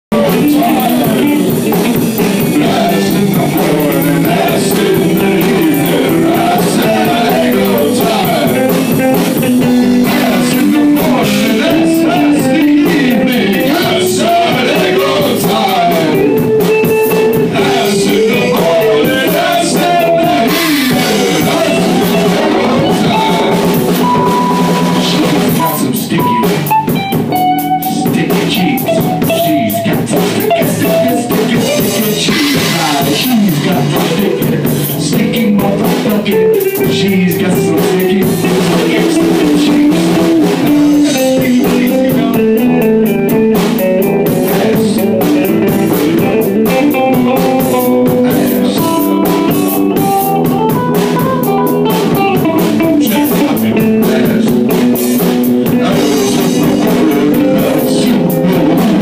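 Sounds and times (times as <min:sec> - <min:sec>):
drum kit: 0:00.0 - 0:59.0
electric guitar: 0:00.0 - 0:59.0
person singing into microphone: 0:00.1 - 0:59.0.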